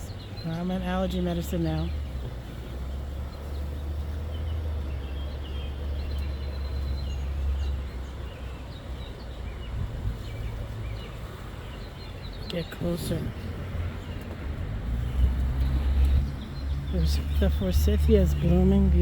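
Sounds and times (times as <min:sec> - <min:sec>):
small songbirds chirping: 0:00.0 - 0:19.0.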